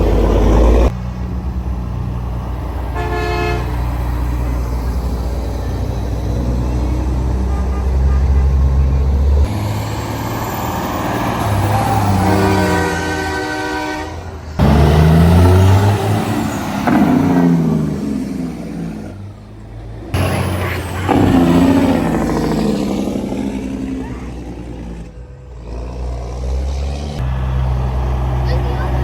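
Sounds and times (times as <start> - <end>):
truck engines driving past: 0.0 - 29.0.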